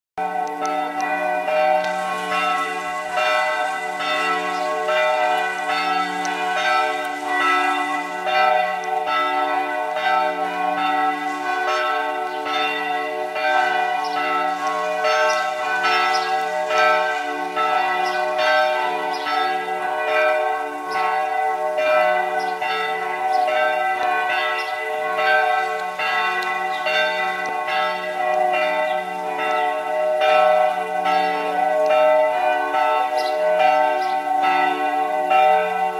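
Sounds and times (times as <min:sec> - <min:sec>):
church bells pealing: 0:00.2 - 0:35.9.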